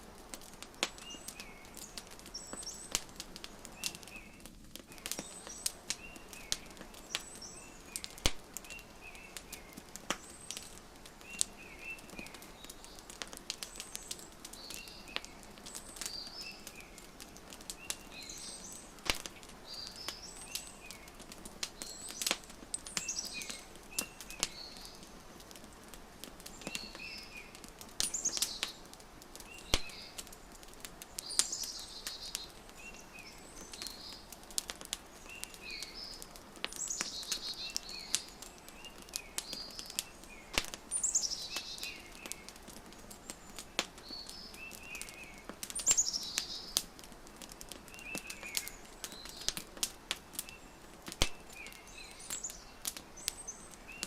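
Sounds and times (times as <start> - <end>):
wood fire crackling: 0.0 - 54.0
small birds chirping: 0.1 - 54.0.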